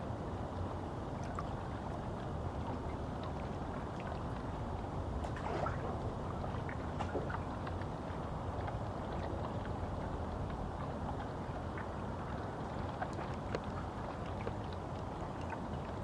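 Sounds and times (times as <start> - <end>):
low wind rumble: 0.0 - 16.0
small waves lapping on shore: 0.6 - 16.0.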